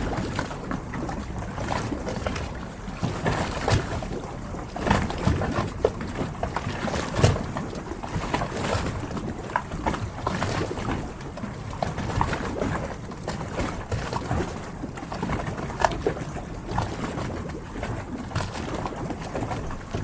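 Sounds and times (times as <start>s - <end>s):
water lapping against hulls: 0.0s - 20.0s.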